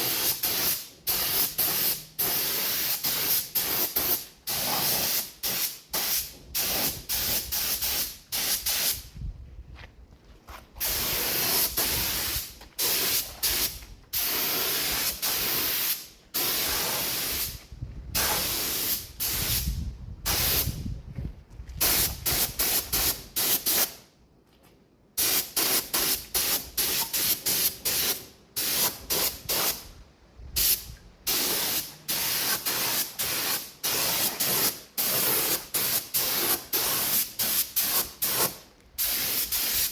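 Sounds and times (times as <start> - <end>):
spray paint hissing: 0.0 - 9.1, 10.8 - 20.8, 21.8 - 24.0, 25.2 - 29.9, 30.6 - 39.9.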